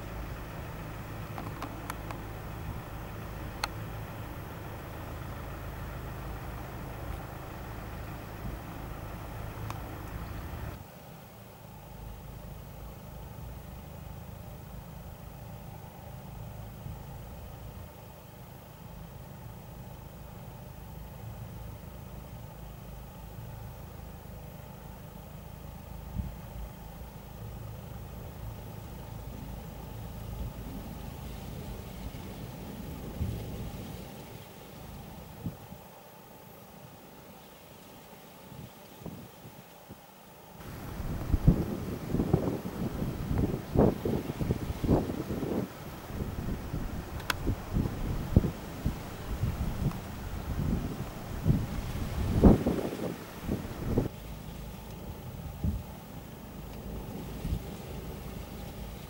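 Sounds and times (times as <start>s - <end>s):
vehicle engine idling: 0.0s - 38.0s, 40.4s - 59.0s.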